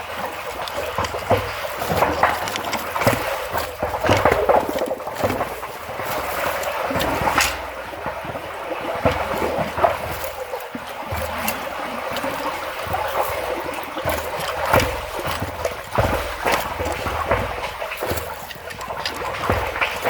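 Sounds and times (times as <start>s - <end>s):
thumps and splashes: 0.0s - 20.0s
water running and trickling: 0.0s - 20.0s.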